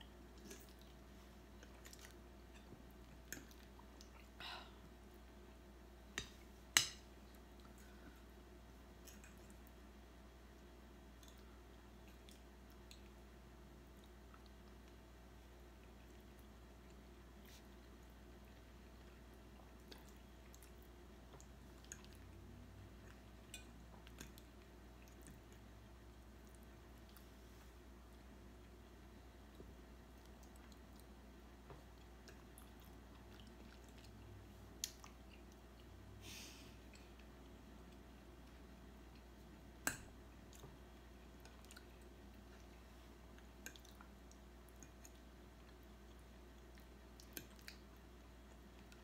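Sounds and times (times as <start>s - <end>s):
low room hum: 0.0s - 49.0s
faint chewing: 0.1s - 5.4s, 6.1s - 9.9s, 10.6s - 49.0s.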